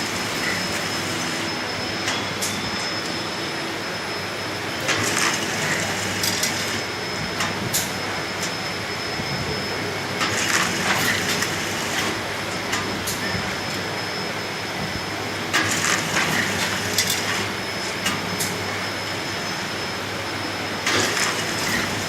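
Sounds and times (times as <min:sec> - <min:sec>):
high machine whine: 0:00.0 - 0:22.0.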